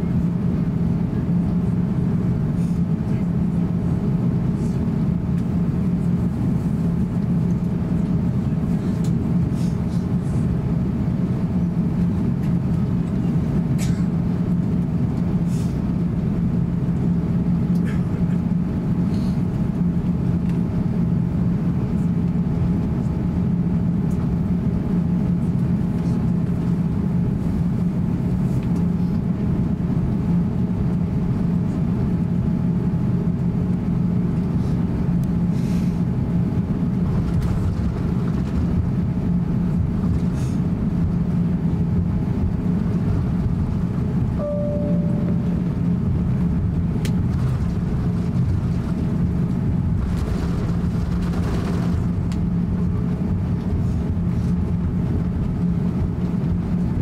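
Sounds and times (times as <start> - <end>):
aircraft engine drone in cabin: 0.0 - 57.0
faint engine whine: 0.0 - 57.0.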